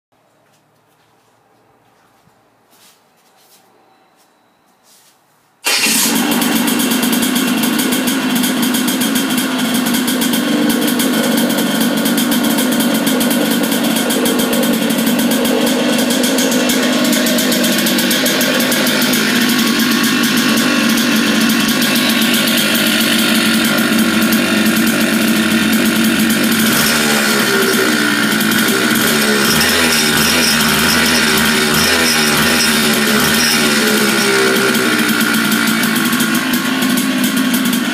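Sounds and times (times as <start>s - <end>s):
electric starter: 5.6s - 37.9s
kart engine starting and idling: 5.6s - 37.9s.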